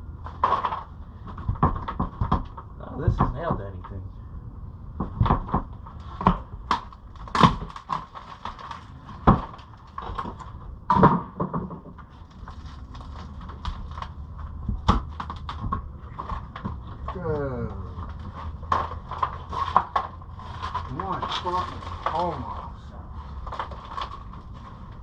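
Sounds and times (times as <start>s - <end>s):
rotten wood cracking and scraping: 0.0s - 4.0s, 4.9s - 25.0s.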